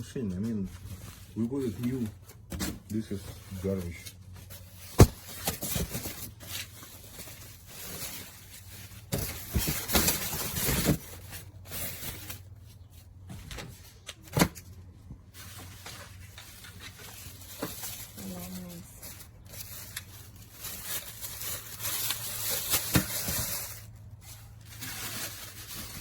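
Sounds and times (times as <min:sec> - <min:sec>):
packaging rustling: 0:00.8 - 0:12.5, 0:15.3 - 0:26.0.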